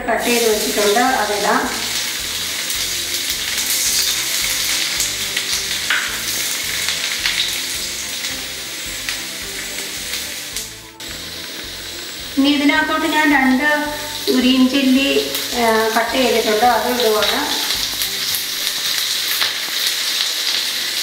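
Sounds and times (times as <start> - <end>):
garlic sizzling in hot oil: 0.0 - 21.0.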